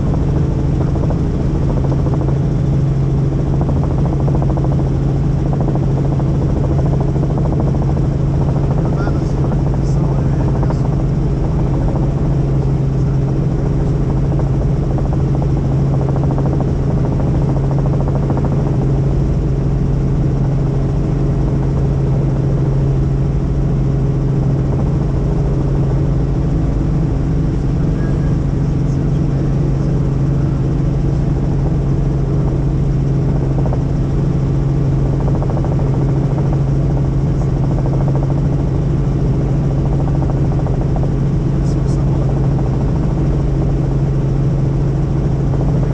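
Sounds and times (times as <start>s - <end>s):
helicopter flying: 0.0s - 45.9s.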